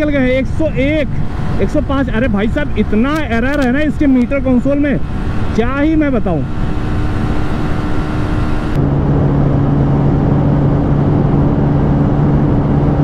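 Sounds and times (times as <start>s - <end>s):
motorcycle engine at high revs: 0.0s - 13.0s
wind rush: 0.0s - 13.0s.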